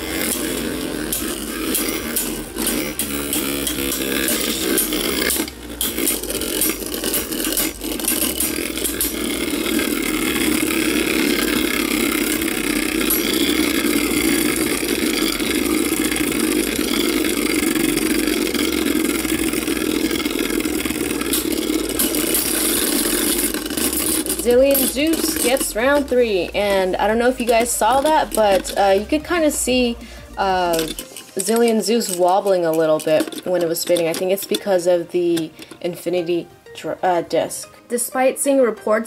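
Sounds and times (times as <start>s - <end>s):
spinning tops clacking: 0.0s - 36.4s
spinning tops whirring scrape: 0.0s - 39.0s.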